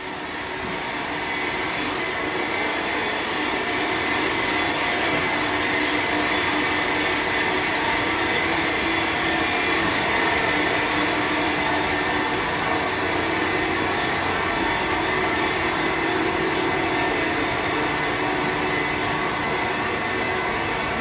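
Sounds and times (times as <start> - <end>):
machinery hum and rumble: 0.0 - 21.0.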